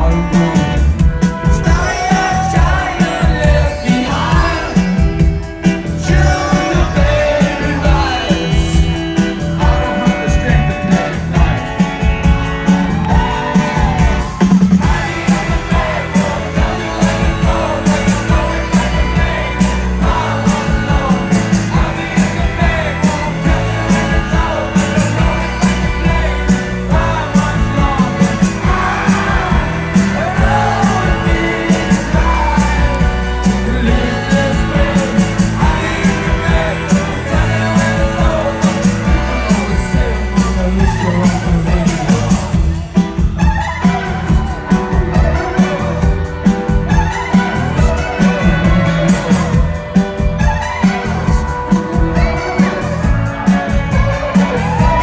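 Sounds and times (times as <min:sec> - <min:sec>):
lead singer singing: 0:00.0 - 0:55.0
live rock band playing: 0:00.0 - 0:55.0
steady drum beat: 0:00.0 - 0:55.0.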